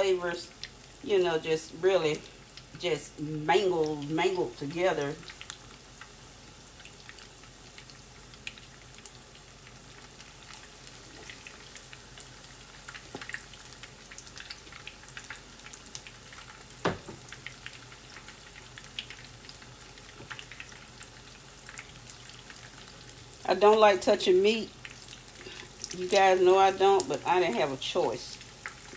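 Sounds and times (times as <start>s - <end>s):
chicken deep-frying in hot oil: 0.0s - 28.9s.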